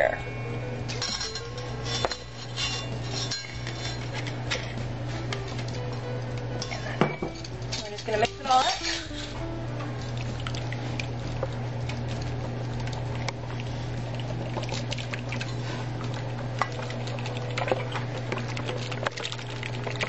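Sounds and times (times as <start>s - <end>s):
steady low hum: 0.0s - 20.0s
utensil stirring wet mixture: 1.0s - 20.0s.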